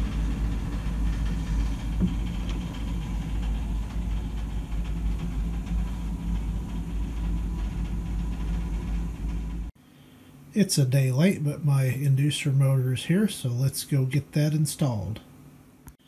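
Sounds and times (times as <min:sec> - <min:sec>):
faint steady whine: 0:00.0 - 0:16.0
gas furnace humming: 0:00.0 - 0:16.0.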